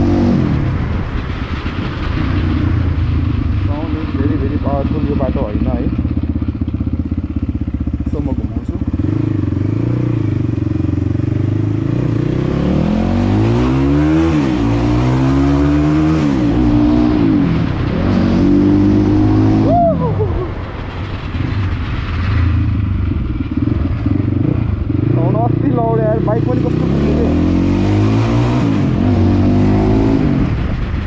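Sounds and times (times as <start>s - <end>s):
dirt bike engine accelerating: 0.0s - 31.0s.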